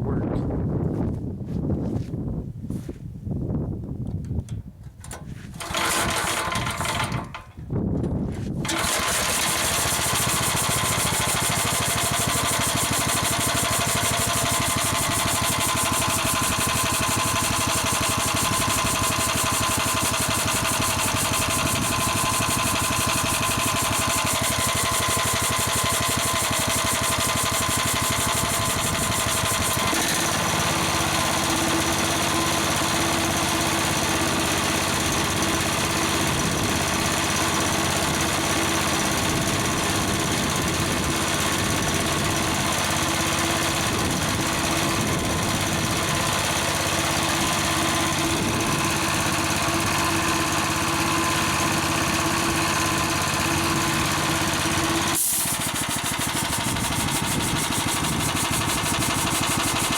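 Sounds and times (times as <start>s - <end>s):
air compressor running: 5.3s - 7.6s, 8.5s - 59.9s.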